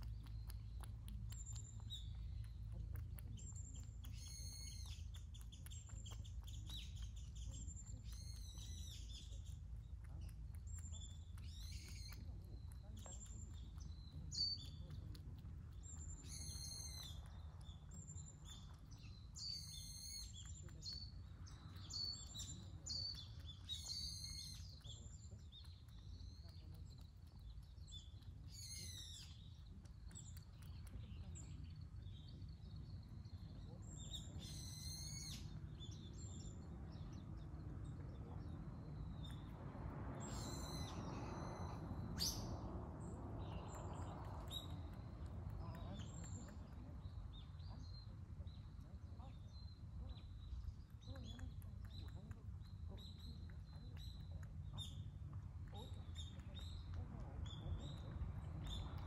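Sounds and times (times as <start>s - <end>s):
low background noise: 0.0s - 59.0s
small birds chirping: 0.0s - 59.0s.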